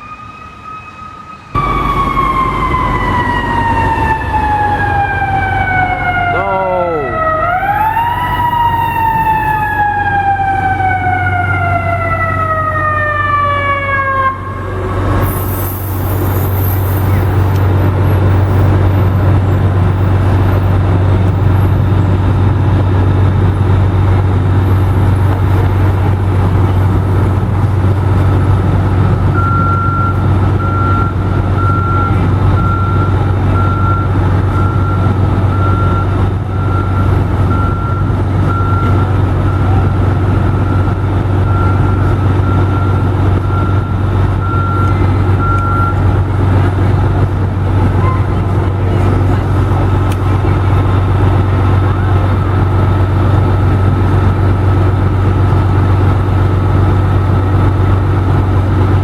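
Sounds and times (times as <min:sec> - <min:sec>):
fire truck siren wailing: 0:00.0 - 0:59.0
truck engine rumble: 0:00.0 - 0:59.0.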